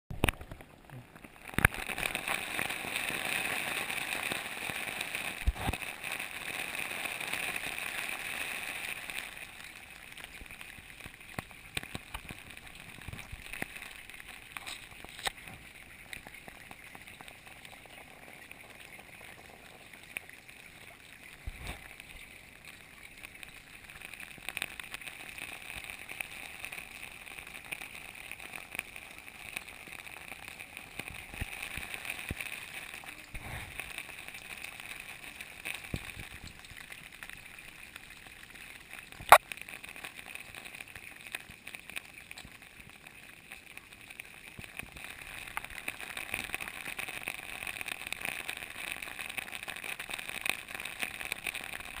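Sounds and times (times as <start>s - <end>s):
steady hiss: 0.2s - 52.0s.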